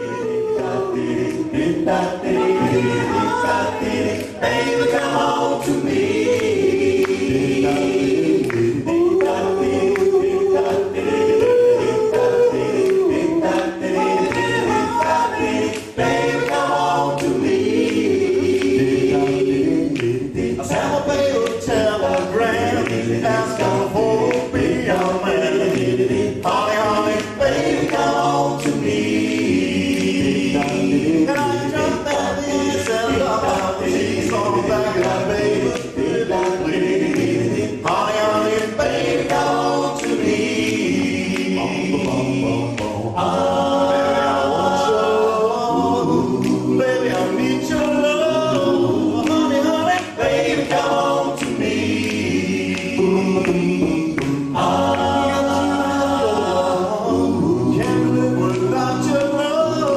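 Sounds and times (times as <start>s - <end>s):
men singing in close harmony: 0.0s - 59.9s.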